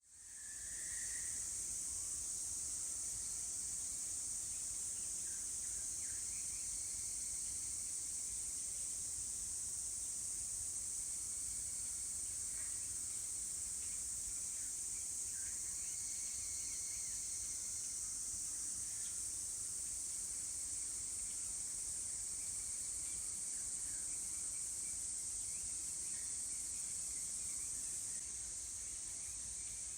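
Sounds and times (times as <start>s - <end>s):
insects trilling: 0.1s - 29.9s.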